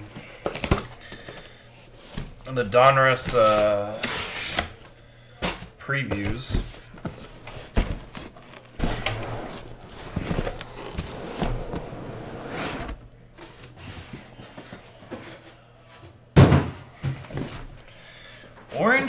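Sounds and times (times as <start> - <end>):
boxes scraping and rustling: 0.1 - 16.1.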